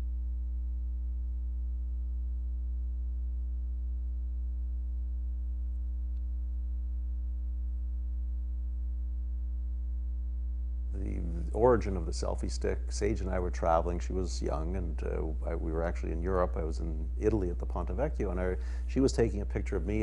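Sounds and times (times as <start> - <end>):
low hum with overtones: 0.0 - 20.0.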